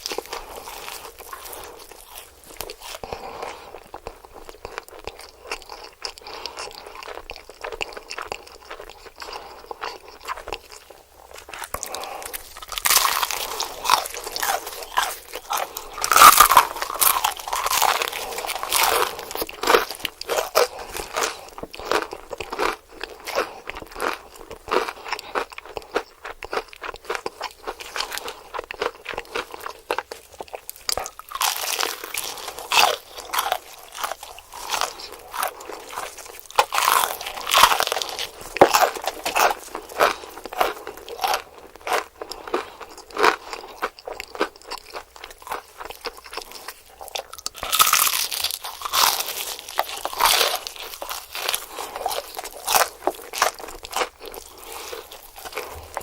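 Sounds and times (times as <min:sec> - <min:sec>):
crunchy bites of fried chicken: 0:00.0 - 0:56.0.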